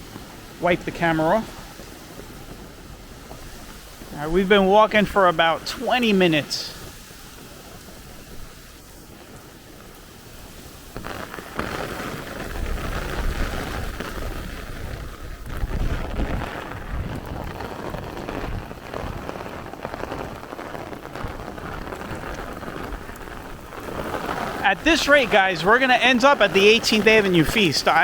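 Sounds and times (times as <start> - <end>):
heavy rain pouring: 0.0 - 28.0
low rumbling wind gusts: 0.0 - 28.0.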